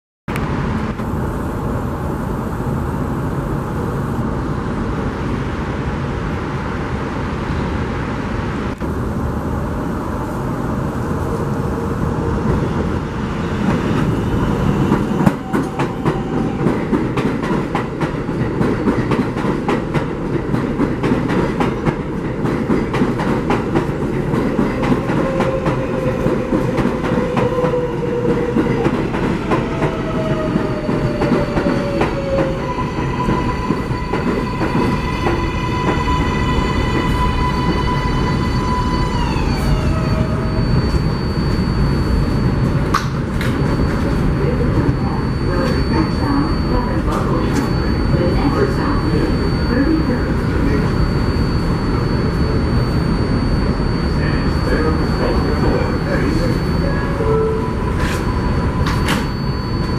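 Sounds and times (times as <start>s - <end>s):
train rumble: 0.3s - 59.9s.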